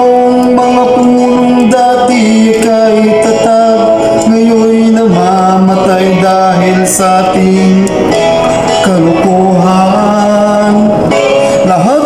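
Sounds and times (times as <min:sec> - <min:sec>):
backing track: 0:00.0 - 0:12.0
man singing into a microphone: 0:00.0 - 0:12.0.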